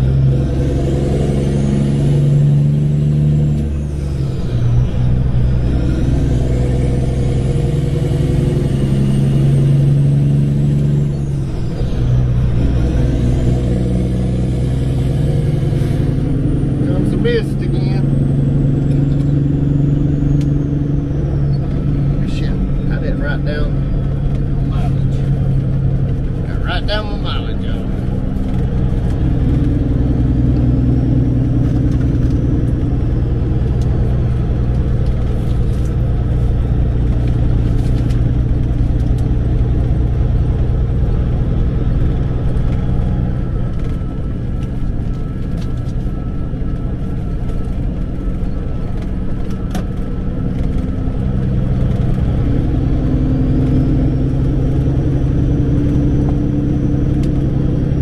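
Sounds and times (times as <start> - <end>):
diesel truck engine from cab: 0.0 - 58.0.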